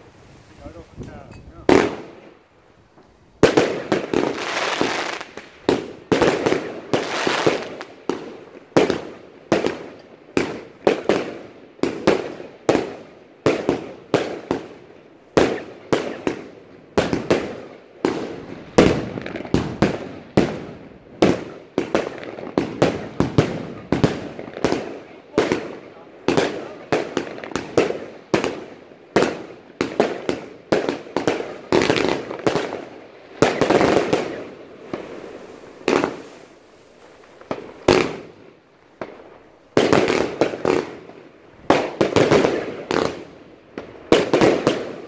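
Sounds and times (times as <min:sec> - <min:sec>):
firework crackling: 0:00.0 - 0:45.0
firework sharp reports: 0:00.0 - 0:45.0.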